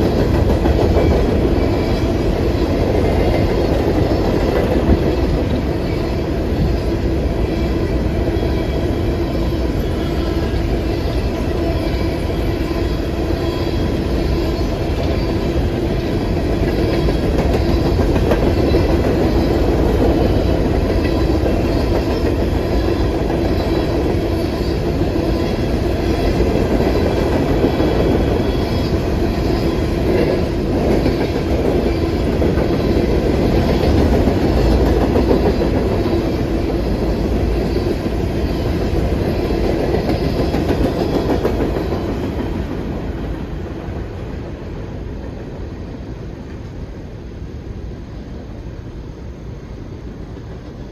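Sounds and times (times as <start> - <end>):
train wheels clicking over rail joints: 0.0 - 44.4.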